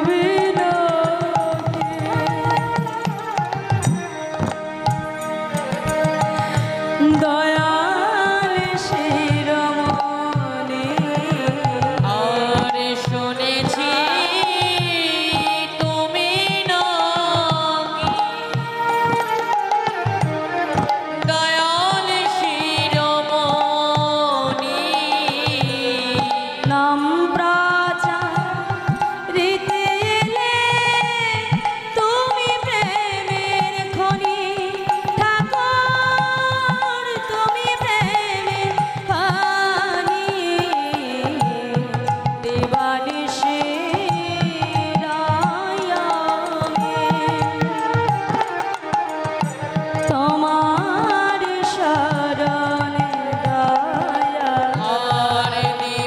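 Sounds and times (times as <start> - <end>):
devotional singing: 0.0 - 3.7, 4.4 - 18.8, 20.5 - 48.6, 49.8 - 56.0.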